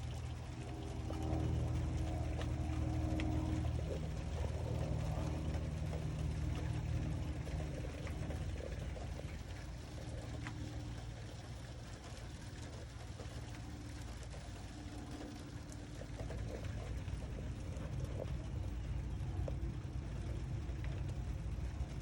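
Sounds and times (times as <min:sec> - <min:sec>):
faint drips: 0:00.0 - 0:22.0
rain falling and trickling: 0:00.0 - 0:22.0
steady low hum: 0:00.0 - 0:22.0.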